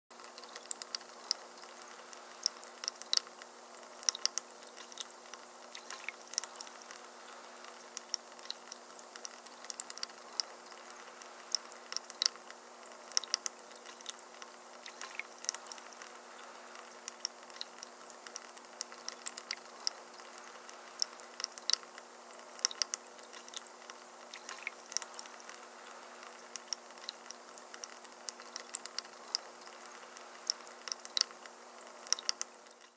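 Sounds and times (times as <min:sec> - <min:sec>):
faint steady hum: 0:00.1 - 0:32.9
fountain water trickling: 0:00.1 - 0:32.9
water drips and plinks: 0:00.1 - 0:32.9.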